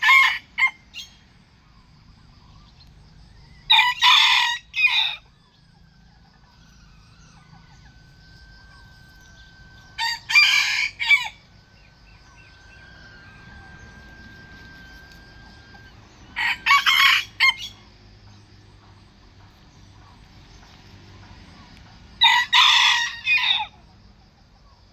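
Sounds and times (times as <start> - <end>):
roosters crowing: 0.0 - 24.1.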